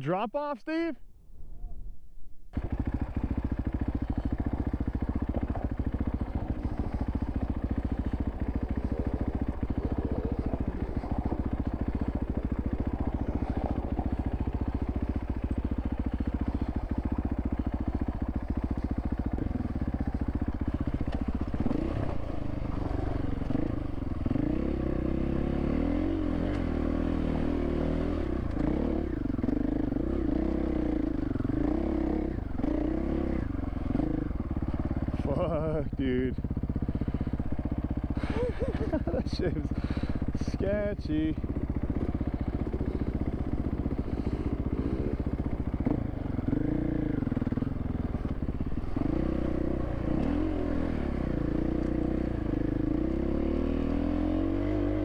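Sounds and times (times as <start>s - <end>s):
dirt bike engine revving: 2.6s - 55.0s.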